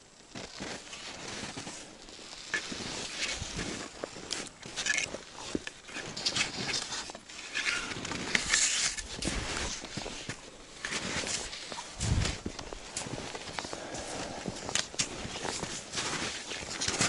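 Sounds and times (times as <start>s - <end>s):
skis scraping over snow: 0.3s - 17.0s.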